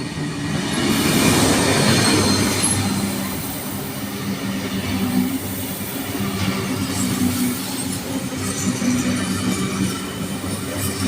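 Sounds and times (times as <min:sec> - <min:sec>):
wheels on rails: 0:00.0 - 0:11.0.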